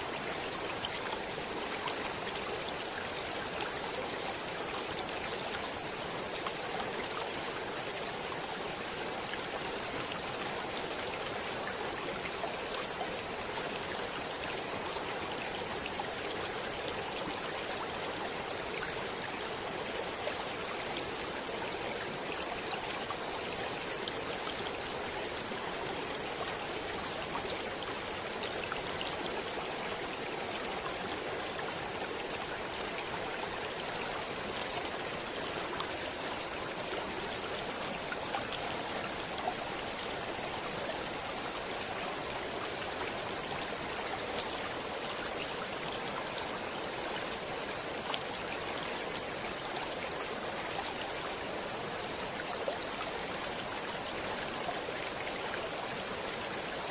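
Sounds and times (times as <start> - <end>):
stream water flowing: 0.0 - 56.9.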